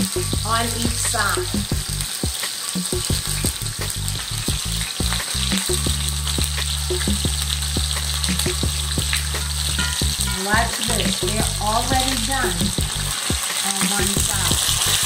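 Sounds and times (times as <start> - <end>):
fish sizzling in a skillet: 0.0 - 15.0
oil spitting crackle: 0.0 - 15.0.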